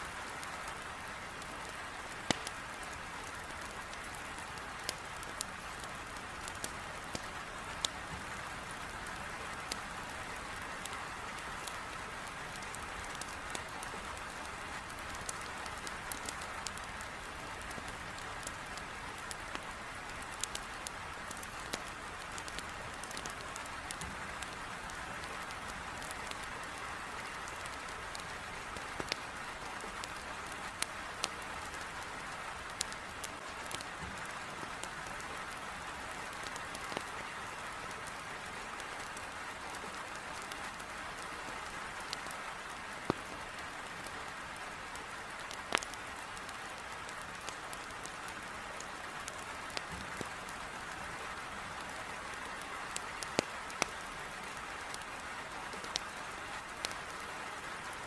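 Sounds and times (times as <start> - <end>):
heavy rain on a window: 0.0 - 58.0
wood fire crackling: 0.0 - 58.0.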